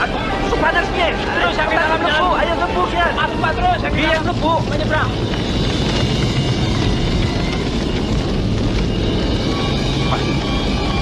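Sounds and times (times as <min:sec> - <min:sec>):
train running at speed: 0:00.0 - 0:11.0.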